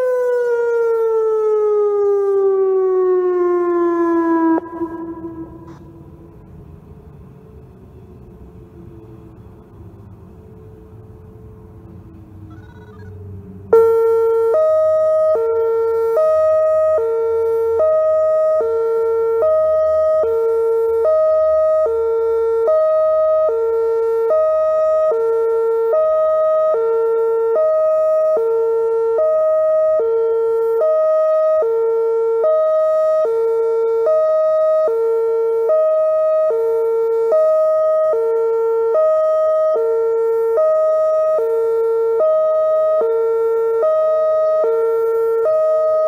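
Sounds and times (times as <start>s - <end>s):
hi-lo warning siren: 0.0s - 46.0s.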